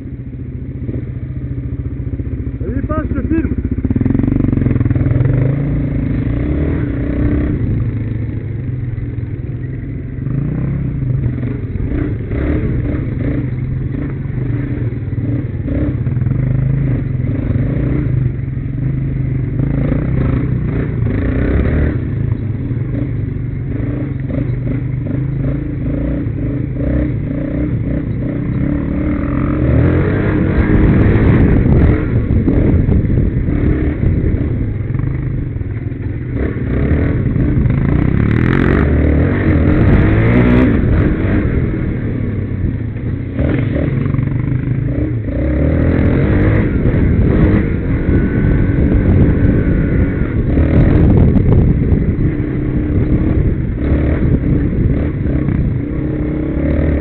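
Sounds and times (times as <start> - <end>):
quad engine revving: 0.8 - 9.0, 9.9 - 35.6, 36.2 - 57.0.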